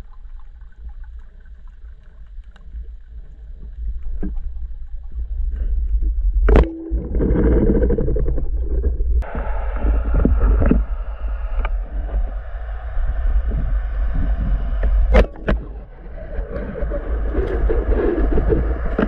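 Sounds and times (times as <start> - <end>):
underwater water rumble: 0.0 - 19.0.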